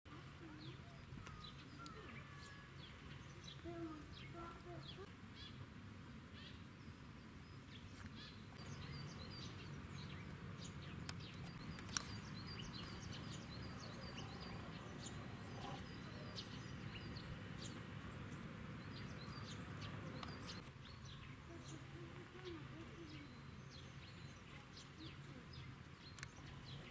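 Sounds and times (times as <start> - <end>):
small birds chirping: 0.1 - 26.9.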